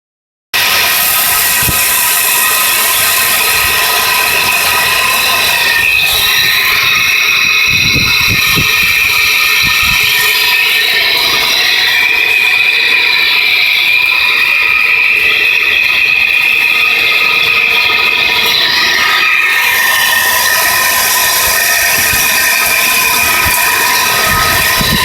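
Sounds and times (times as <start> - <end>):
engine squealing whine: 0.6 - 25.0.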